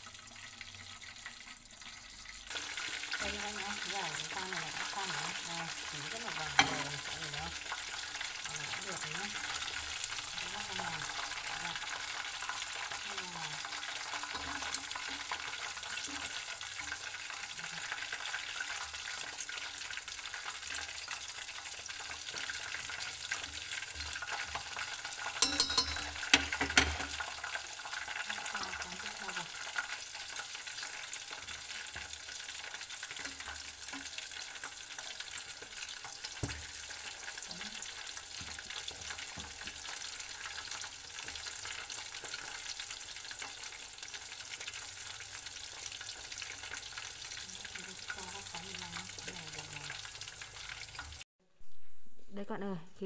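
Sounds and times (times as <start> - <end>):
chicken sizzling in hot oil: 0.0 - 51.3.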